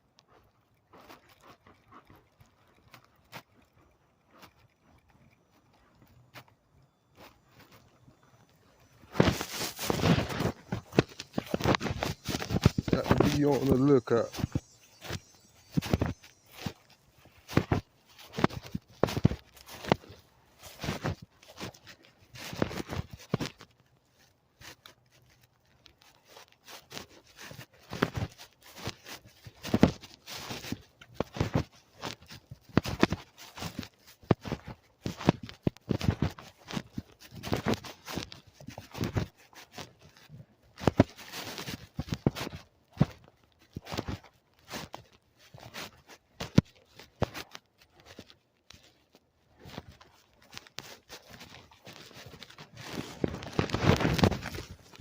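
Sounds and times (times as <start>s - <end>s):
footsteps crunching: 0.3s - 55.0s.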